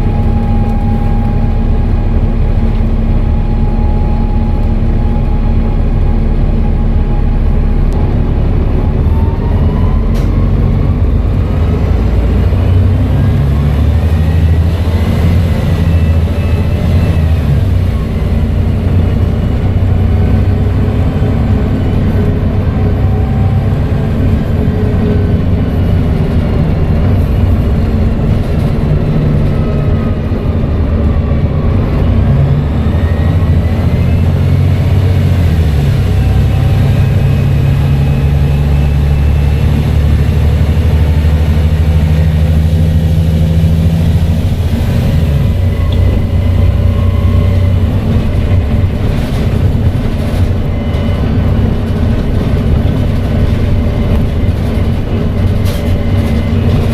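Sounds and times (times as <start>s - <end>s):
bus diesel engine under load: 0.0s - 56.9s.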